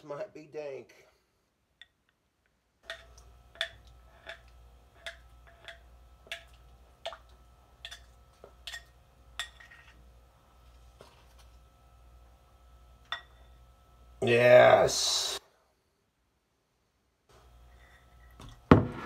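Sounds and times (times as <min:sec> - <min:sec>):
steady low hum: 0:02.8 - 0:16.5, 0:17.2 - 0:19.0.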